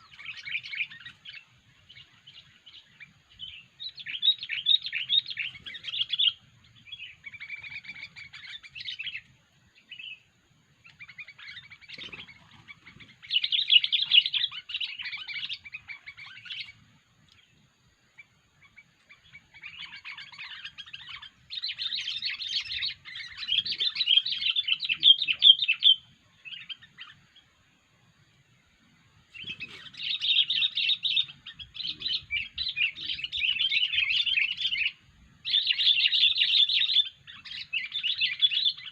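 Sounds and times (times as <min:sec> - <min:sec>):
bird chattering song: 0:00.0 - 0:27.6, 0:28.8 - 0:38.9.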